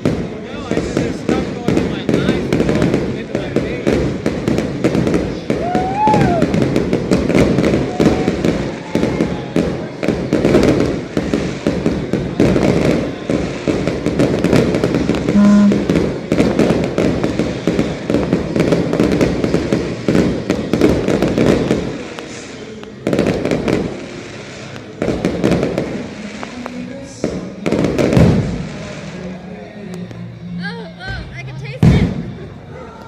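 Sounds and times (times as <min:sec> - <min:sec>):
fireworks bursting and crackling: 0:00.0 - 0:30.4, 0:31.3 - 0:32.7.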